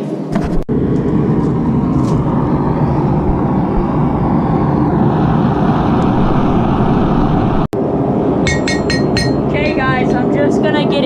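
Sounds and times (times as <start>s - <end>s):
forge burner rushing: 0.1s - 10.6s.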